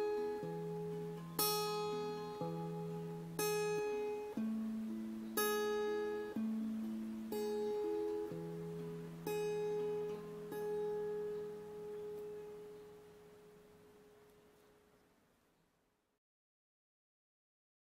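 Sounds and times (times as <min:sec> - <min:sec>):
guitar notes and ringing chord: 0:00.0 - 0:14.4.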